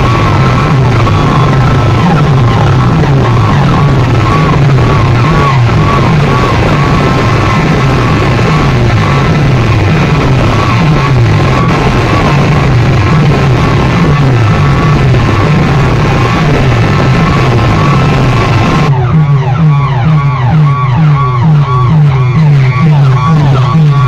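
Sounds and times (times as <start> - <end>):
loud dj music: 0.0 - 24.0
steady high tone: 0.0 - 24.0.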